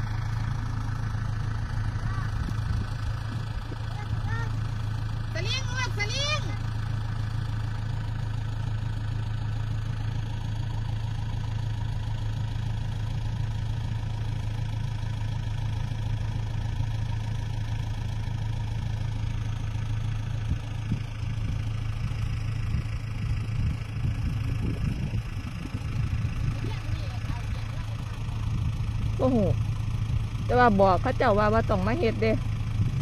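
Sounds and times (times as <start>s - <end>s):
tractor diesel engine idling: 0.0s - 33.0s.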